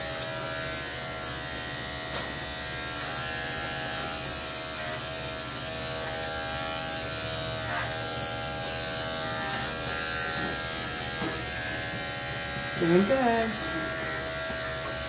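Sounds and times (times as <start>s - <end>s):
electric clipper buzzing: 0.0s - 15.0s.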